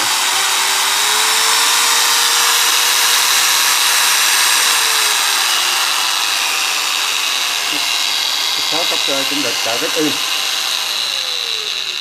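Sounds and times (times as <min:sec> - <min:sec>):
angle grinder motor whine: 0:00.0 - 0:12.0.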